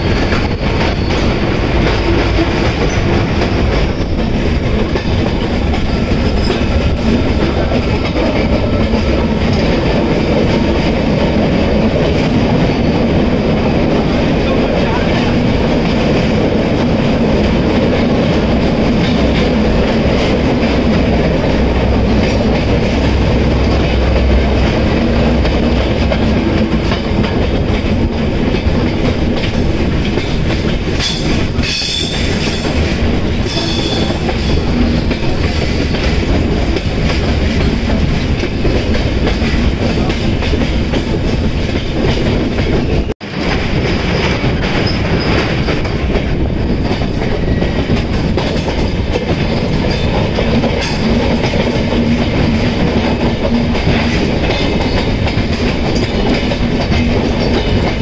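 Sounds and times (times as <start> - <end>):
train wheels clattering: 0.0 - 58.0.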